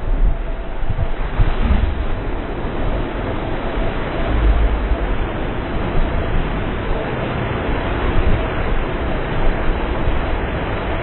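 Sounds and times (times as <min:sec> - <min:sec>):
bus tyres on wet road: 0:00.0 - 0:11.0.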